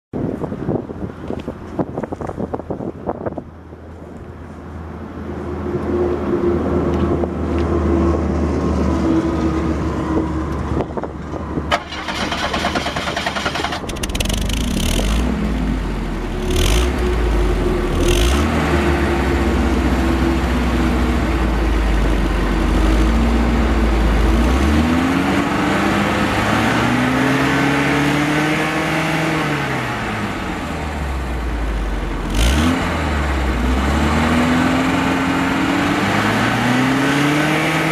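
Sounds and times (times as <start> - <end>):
car exhaust idling and revving: 1.3 - 37.9.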